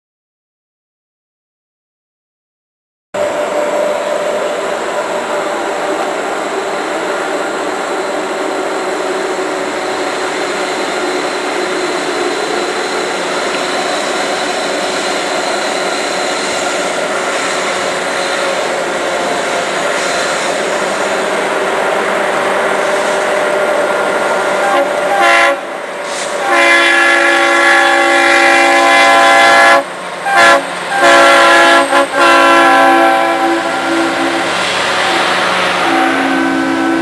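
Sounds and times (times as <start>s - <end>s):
freight train engines droning: 3.2s - 37.0s.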